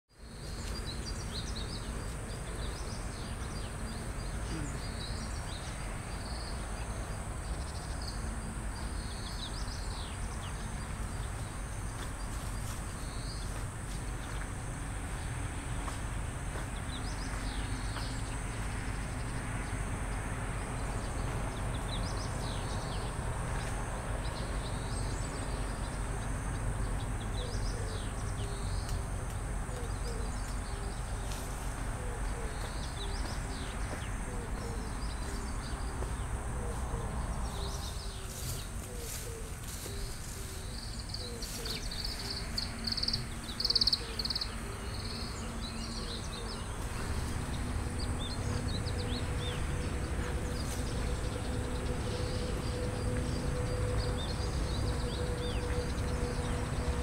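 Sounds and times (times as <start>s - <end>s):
small birds chirping: 0.1s - 14.6s, 20.7s - 57.0s
high insect drone: 0.2s - 57.0s.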